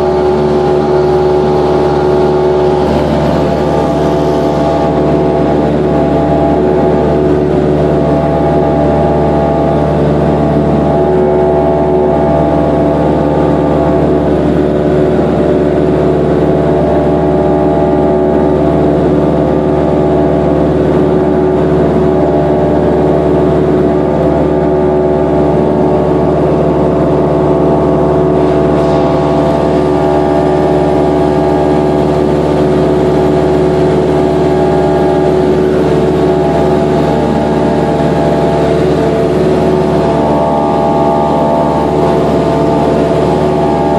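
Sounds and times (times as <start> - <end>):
propeller plane engine drone: 0.0 - 43.9.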